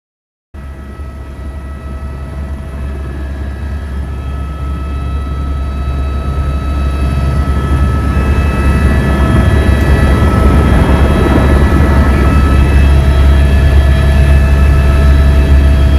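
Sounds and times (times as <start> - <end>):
helicopter engine and rotor: 0.6 - 15.9.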